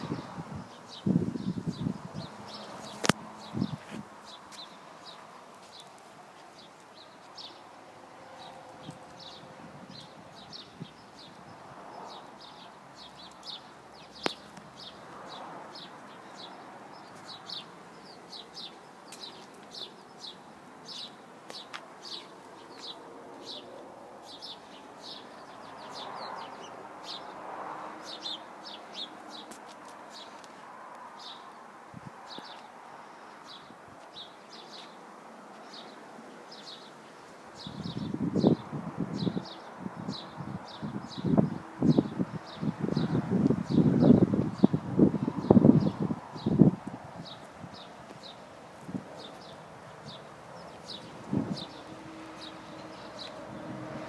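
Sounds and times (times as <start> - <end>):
outdoor background noise: 0.0 - 54.0.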